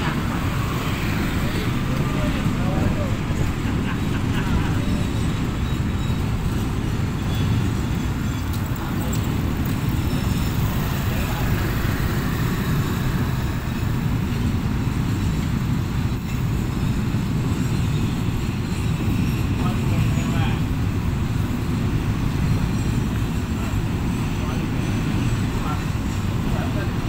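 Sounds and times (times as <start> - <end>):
freight train rumbling on rails: 0.0 - 27.0.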